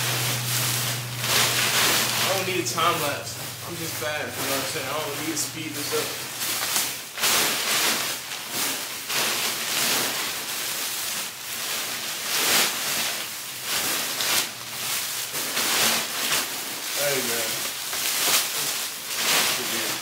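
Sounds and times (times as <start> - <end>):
packages rustling: 0.0 - 20.0.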